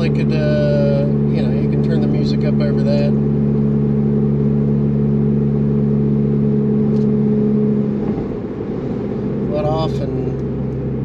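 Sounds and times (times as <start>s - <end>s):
car engine exhaust drone: 0.0s - 11.0s.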